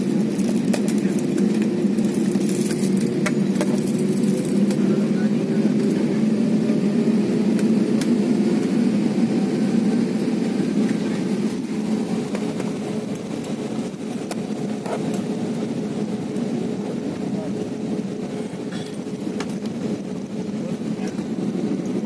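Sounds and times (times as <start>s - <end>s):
airliner engine and rolling hum: 0.0s - 22.0s.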